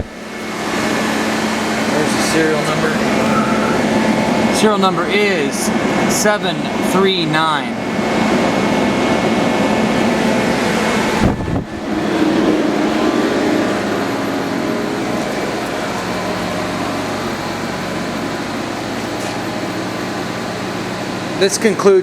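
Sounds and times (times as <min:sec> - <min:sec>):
lathe whirring and humming: 0:00.0 - 0:21.9.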